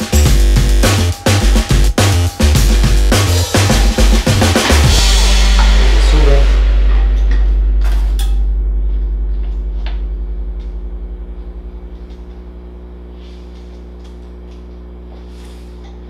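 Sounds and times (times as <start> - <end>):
deep held bass tone: 0.0 - 16.0
steady low hum: 1.6 - 16.0.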